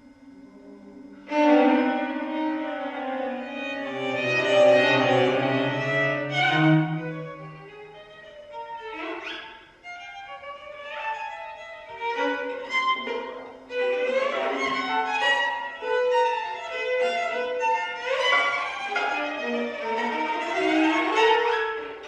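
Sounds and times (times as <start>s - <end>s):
string quartet playing: 1.2s - 9.3s, 9.9s - 22.0s.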